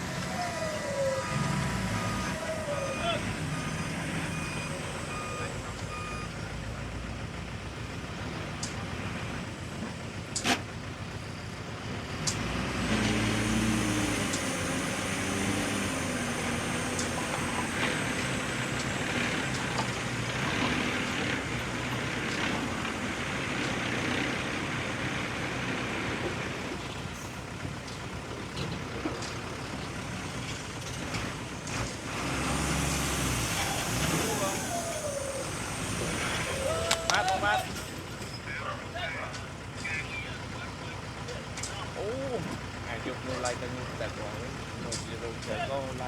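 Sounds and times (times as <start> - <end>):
diesel engine working under load: 0.0 - 46.0.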